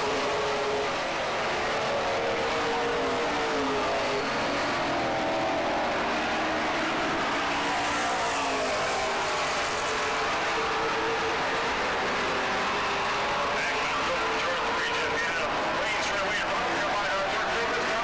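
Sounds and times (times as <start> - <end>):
racing car engines: 0.0 - 18.0.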